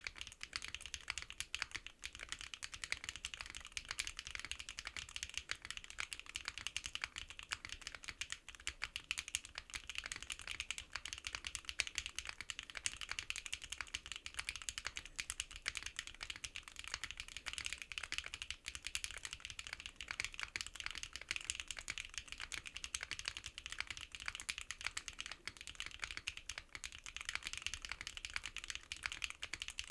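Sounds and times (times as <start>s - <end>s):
mechanical keyboard typing: 0.0s - 29.9s.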